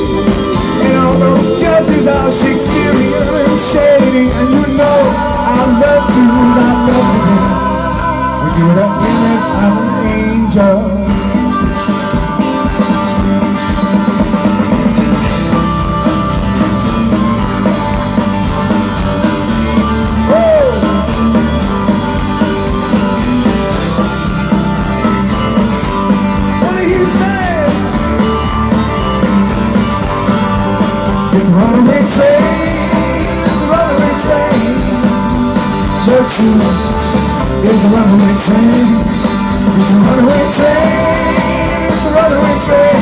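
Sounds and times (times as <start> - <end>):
live band playing pop-rock: 0.0 - 43.0.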